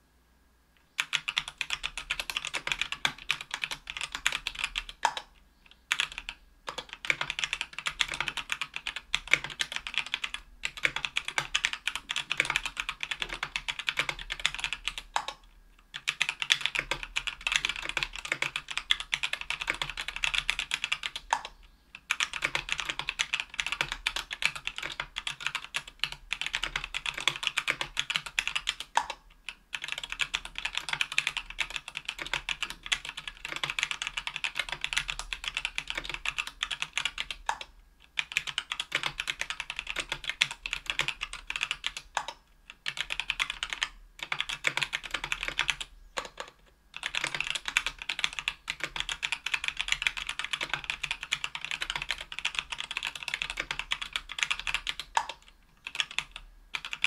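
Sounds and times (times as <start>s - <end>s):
mechanical keyboard typing: 1.0s - 5.3s, 5.9s - 57.0s.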